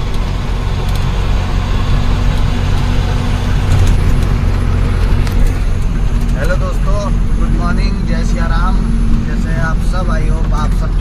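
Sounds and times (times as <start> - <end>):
road noise: 0.0 - 11.0
truck diesel engine drone: 0.0 - 11.0.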